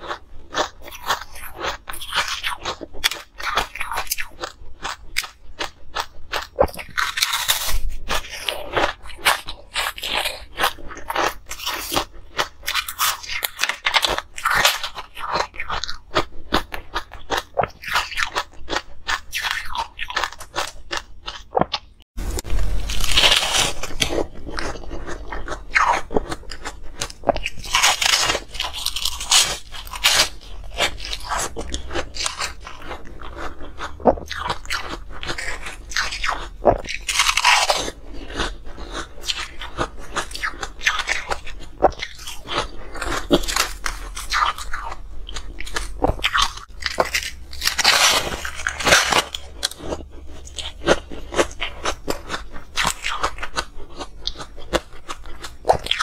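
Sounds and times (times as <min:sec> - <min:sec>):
chewing and crunching ice: 0:00.0 - 0:56.0.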